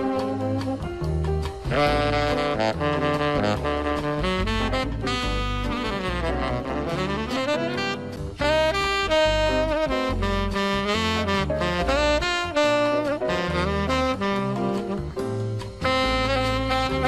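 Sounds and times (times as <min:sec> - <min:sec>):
backing track with bass: 0:00.0 - 0:17.0
tenor saxophone playing jazz: 0:00.0 - 0:17.0.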